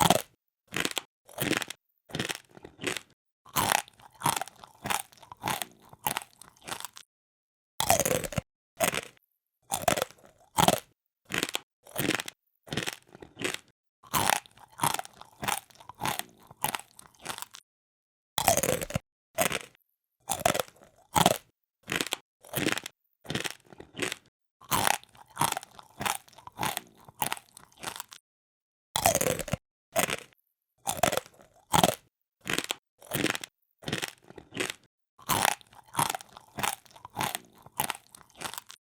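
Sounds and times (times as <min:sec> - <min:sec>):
person munching crunchy food: 0:00.0 - 0:07.1, 0:07.8 - 0:17.6, 0:18.4 - 0:28.2, 0:29.0 - 0:38.8.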